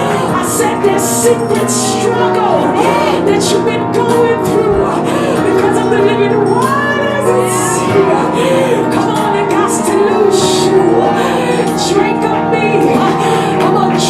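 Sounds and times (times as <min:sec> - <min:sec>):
sustained keyboard chords: 0:00.0 - 0:14.0
voices singing: 0:00.0 - 0:14.0.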